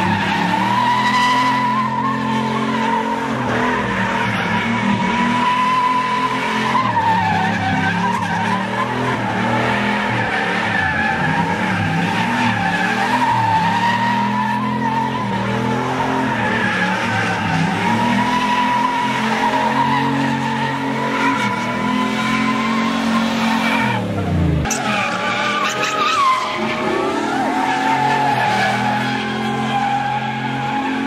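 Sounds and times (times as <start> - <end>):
truck engine revving: 0.0 - 31.0
tyres squealing: 0.0 - 31.0.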